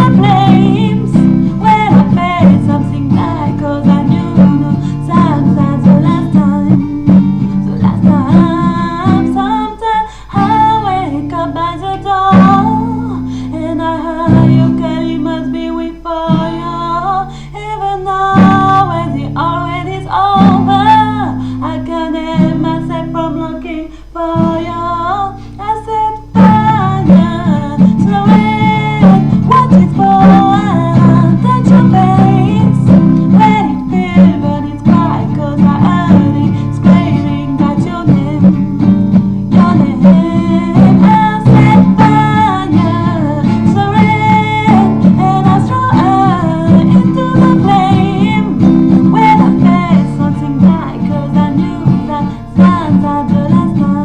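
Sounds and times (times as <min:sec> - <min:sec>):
guitar strumming: 0:00.0 - 0:54.0
person singing: 0:00.0 - 0:54.0.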